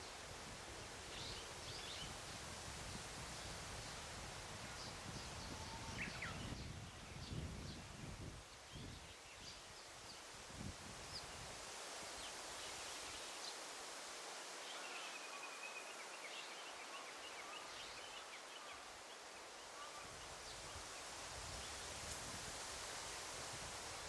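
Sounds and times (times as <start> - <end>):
leaves rustling: 0.0 - 24.0.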